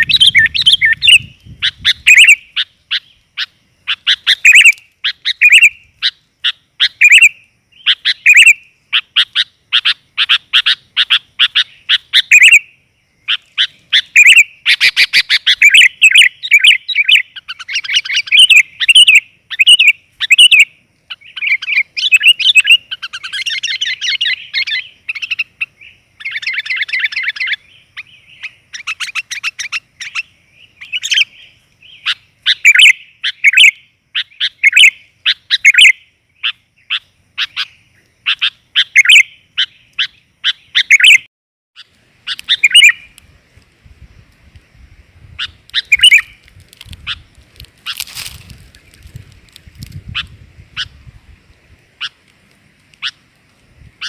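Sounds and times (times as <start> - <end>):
bird chirping: 0.0 - 43.3, 45.3 - 52.3, 52.9 - 54.0.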